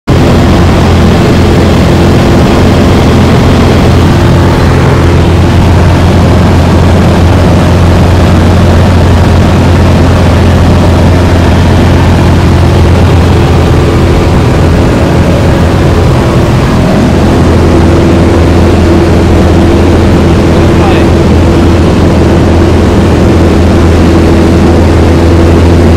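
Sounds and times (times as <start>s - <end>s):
light aircraft engine drone: 0.1s - 25.9s
rush of air: 0.1s - 25.9s.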